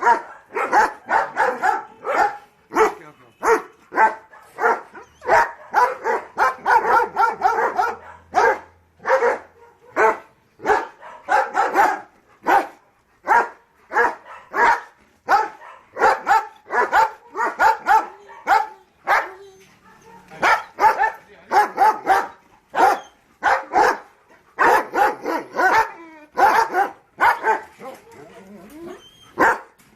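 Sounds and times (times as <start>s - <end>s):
dog barking: 0.0s - 27.9s, 29.4s - 29.8s.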